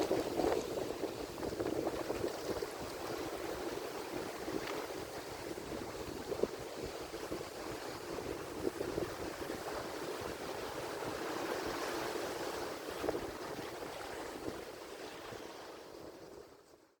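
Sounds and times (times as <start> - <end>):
ocean surf washing ashore: 0.0 - 16.4.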